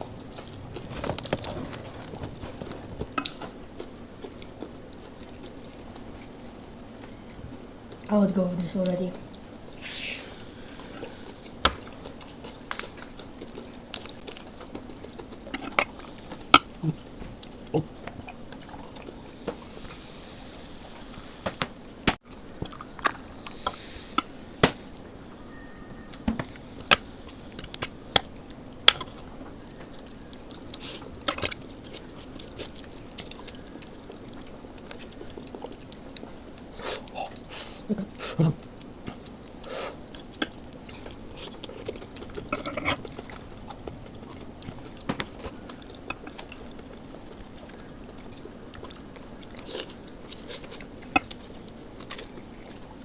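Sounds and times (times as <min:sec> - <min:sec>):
food crunching: 0:00.0 - 0:08.1, 0:10.4 - 0:25.4, 0:26.1 - 0:53.0
wet chewing and lip-smacking: 0:00.0 - 0:08.1, 0:10.3 - 0:25.3, 0:26.8 - 0:53.0.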